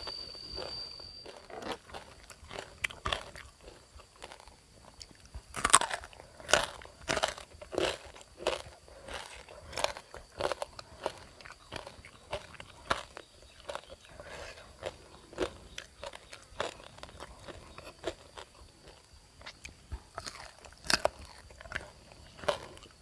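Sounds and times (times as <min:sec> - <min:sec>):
crunching and chewing crispy skin: 0:00.0 - 0:23.0.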